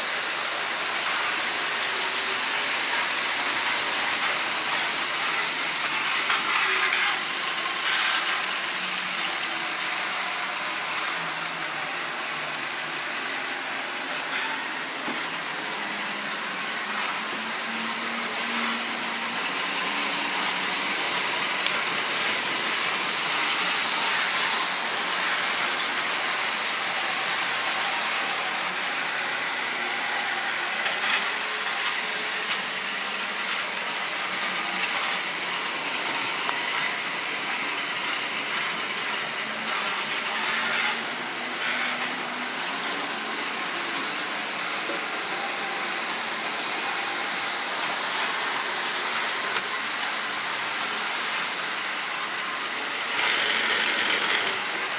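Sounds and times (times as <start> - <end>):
model train wheels rolling: 0.0 - 54.9.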